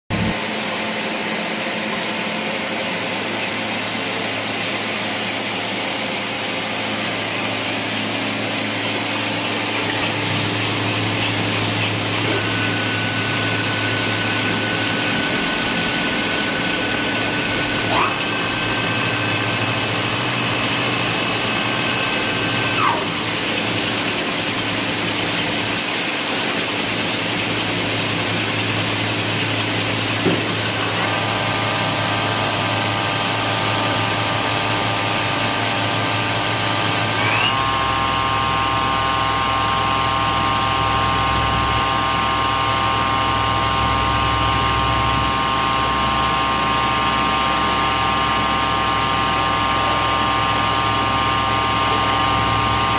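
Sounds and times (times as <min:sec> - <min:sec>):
machine spindle whine: 0:00.2 - 0:24.2, 0:28.5 - 0:52.9.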